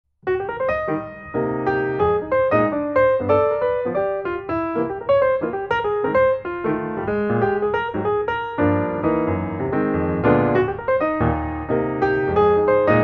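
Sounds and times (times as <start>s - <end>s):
piano music: 0.2s - 13.0s.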